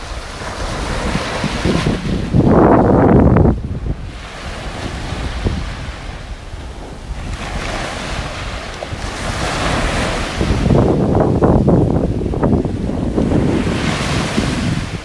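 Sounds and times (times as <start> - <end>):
sea surf washing: 0.0 - 15.0
wind rumbling on microphone: 0.0 - 15.0.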